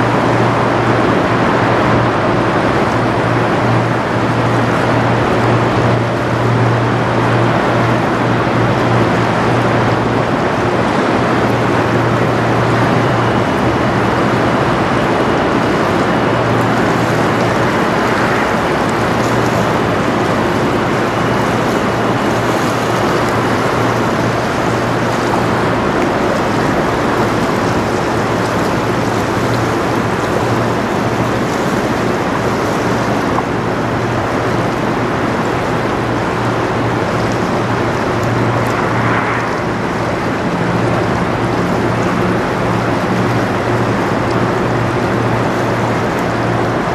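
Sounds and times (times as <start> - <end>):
low ship engine drone: 0.0 - 46.9
water rushing along hull: 0.0 - 46.9.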